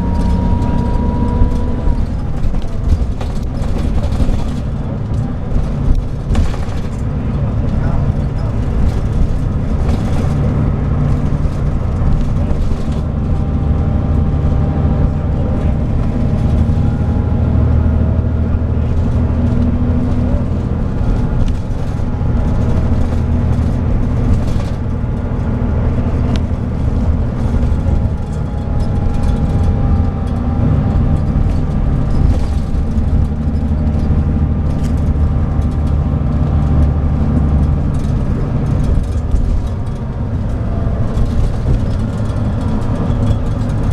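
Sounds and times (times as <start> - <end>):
diesel coach engine droning: 0.0 - 43.9.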